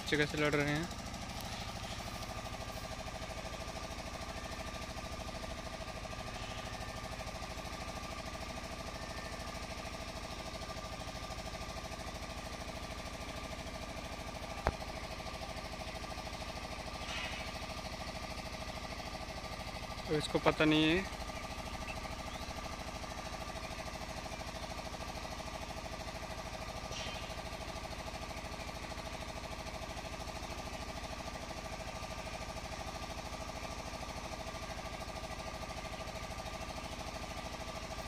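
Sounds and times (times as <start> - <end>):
engine running with rattle: 0.0 - 38.0.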